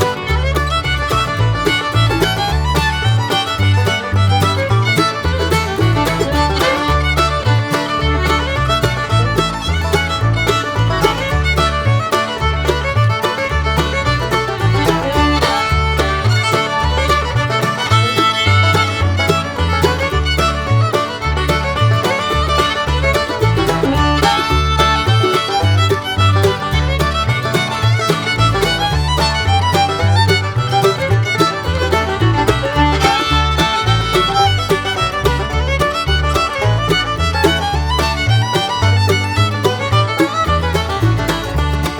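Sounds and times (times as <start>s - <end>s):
upbeat fiddle music with bass beat: 0.0s - 41.9s.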